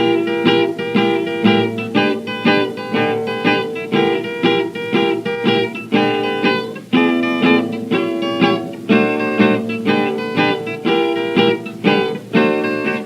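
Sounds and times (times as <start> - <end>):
plucked blues guitar: 0.0 - 13.0.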